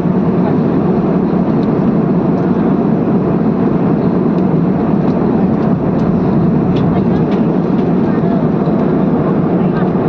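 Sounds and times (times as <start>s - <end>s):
airliner cabin engine noise: 0.0s - 10.0s.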